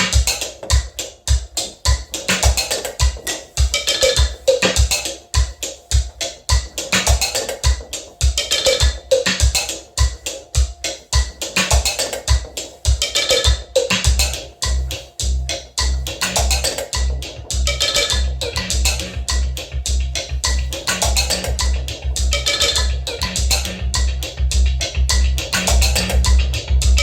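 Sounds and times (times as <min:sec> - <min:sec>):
mechanical percussion loop: 0:00.0 - 0:27.0.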